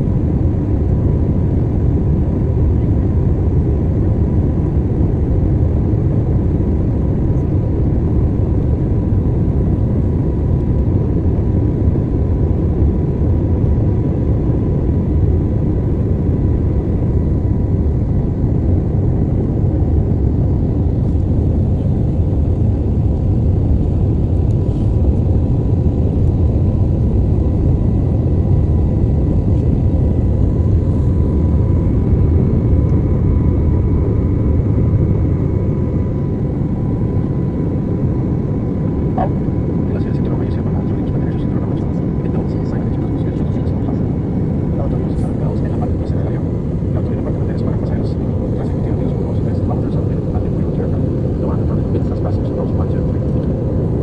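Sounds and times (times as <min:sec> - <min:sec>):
engine and airflow rumble: 0:00.0 - 0:54.0
faint steady whine: 0:00.0 - 0:54.0.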